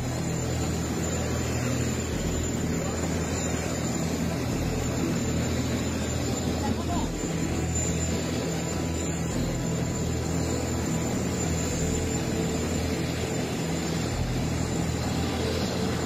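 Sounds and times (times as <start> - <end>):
jet engines running at low power: 0.0 - 16.0.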